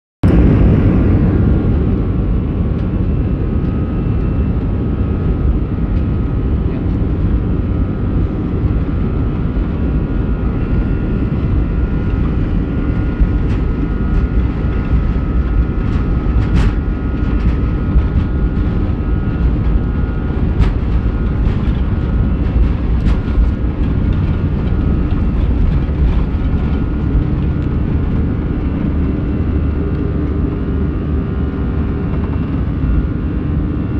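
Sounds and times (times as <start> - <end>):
jet engines rumbling with whine: 0.2 - 33.9.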